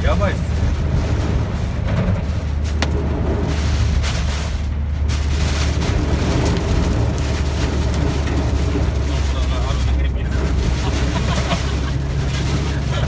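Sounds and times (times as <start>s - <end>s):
wind buffeting a moving car: 0.0s - 13.0s.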